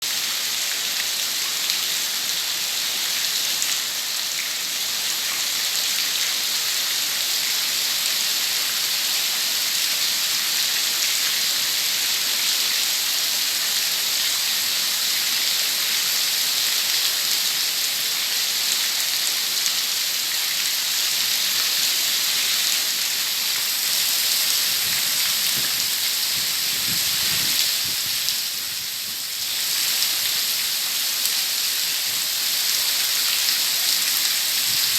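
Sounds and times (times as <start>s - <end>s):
heavy rain on leaves: 0.0s - 34.9s.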